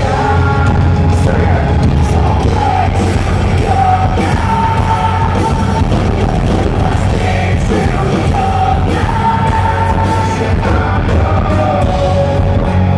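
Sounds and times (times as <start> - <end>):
bass guitar: 0.0 - 12.9
drum kit: 0.0 - 12.9
electric guitar: 0.0 - 12.9.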